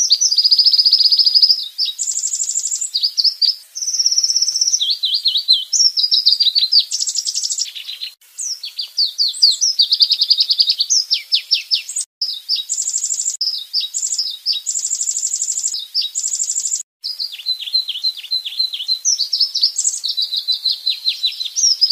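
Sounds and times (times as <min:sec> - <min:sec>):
songbird whistles and trills: 0:00.0 - 0:21.9.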